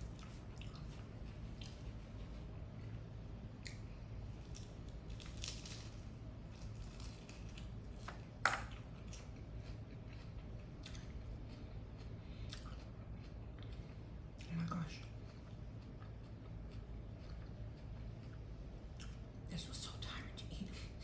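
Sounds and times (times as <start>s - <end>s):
person chewing crunchy food: 0.0s - 14.5s, 15.1s - 19.2s.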